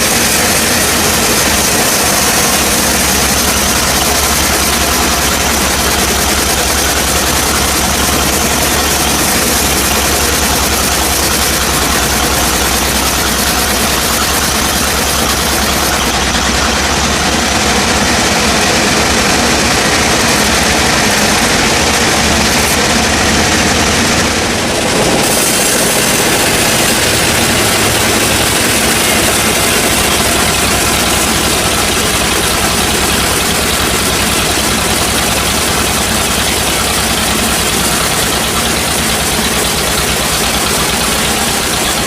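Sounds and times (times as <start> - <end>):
sawmill saw cutting wood: 0.0 - 42.0.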